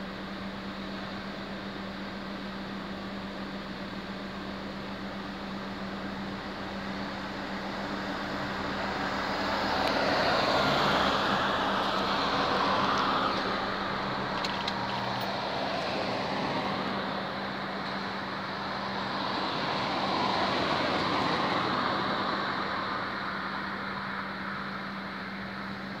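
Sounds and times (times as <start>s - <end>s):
car engine idling: 0.0s - 26.0s
street traffic: 0.0s - 26.0s.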